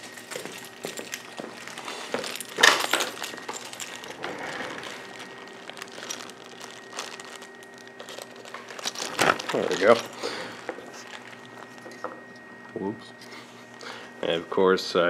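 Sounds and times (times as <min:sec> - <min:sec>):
tools clattering: 0:00.0 - 0:12.2
plastic packaging crinkling: 0:00.0 - 0:12.3.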